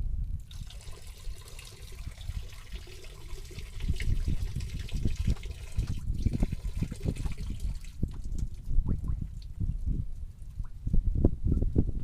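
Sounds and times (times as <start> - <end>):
wind buffeting microphone: 0.0 - 12.0
water trickling and splashing: 0.4 - 10.8.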